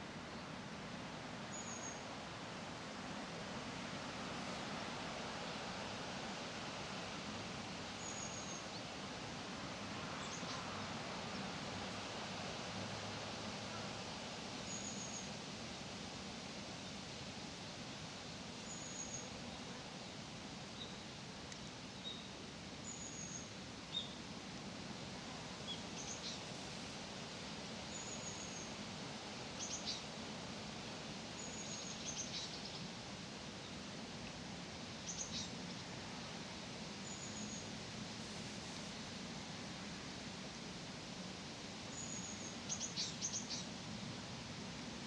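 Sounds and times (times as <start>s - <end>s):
outdoor background hiss and hum: 0.0s - 45.0s.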